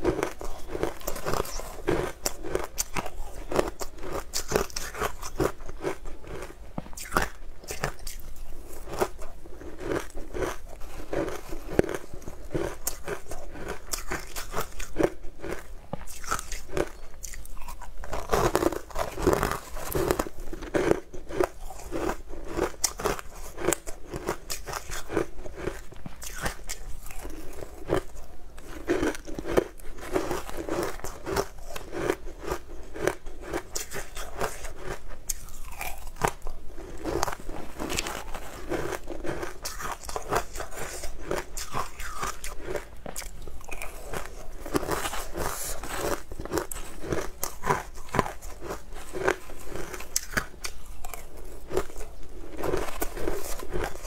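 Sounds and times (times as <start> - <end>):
crunching and chewing ice: 0.0 - 54.0.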